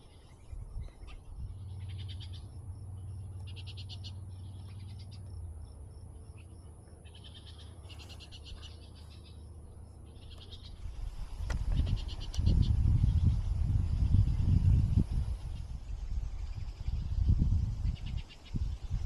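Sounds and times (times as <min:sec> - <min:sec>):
songbirds rattling trills: 0:00.0 - 0:19.0.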